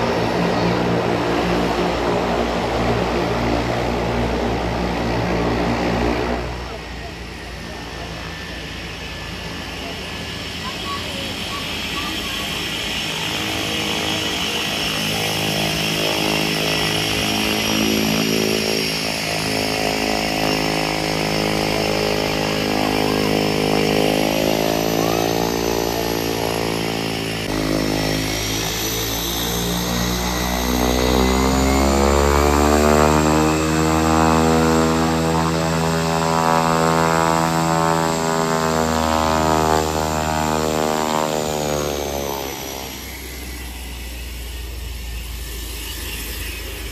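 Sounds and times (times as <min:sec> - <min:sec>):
high turbine whine: 0:00.0 - 0:46.9
propeller drone: 0:00.0 - 0:46.9.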